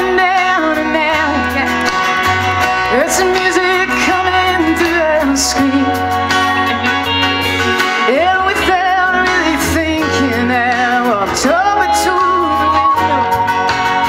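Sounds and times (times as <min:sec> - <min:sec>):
bass: 0:00.0 - 0:14.0
strummed acoustic guitar: 0:00.0 - 0:14.0
woman singing: 0:00.0 - 0:14.0.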